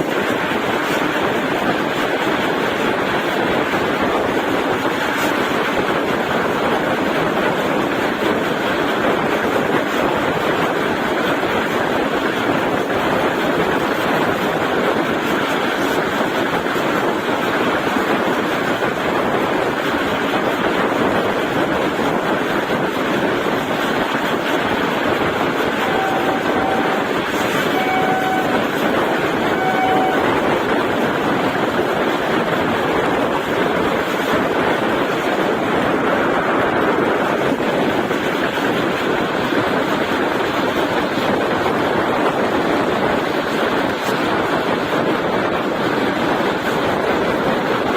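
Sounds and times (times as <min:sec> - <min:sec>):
train running on rails: 0:00.0 - 0:47.9
wind buffeting microphone: 0:00.0 - 0:47.9.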